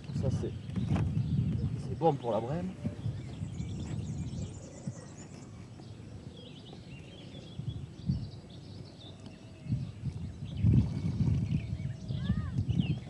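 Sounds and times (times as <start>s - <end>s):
faint bird chirps: 0.1s - 13.0s.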